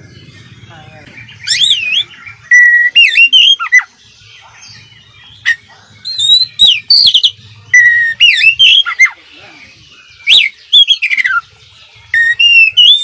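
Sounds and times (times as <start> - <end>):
songbird whistling: 1.1 - 11.5, 12.1 - 13.0.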